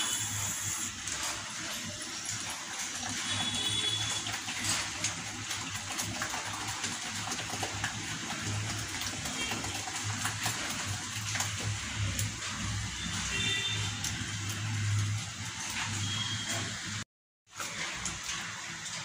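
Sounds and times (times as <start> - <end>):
wet squishing of batter: 0.0 - 16.8.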